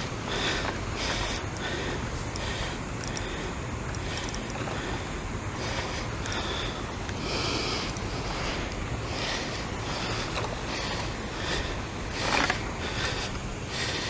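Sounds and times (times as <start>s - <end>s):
moving water: 0.0s - 14.0s.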